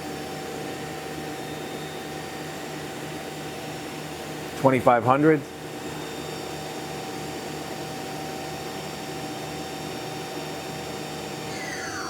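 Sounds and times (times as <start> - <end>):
lathe spindle whine: 0.2 - 4.4, 5.6 - 12.0.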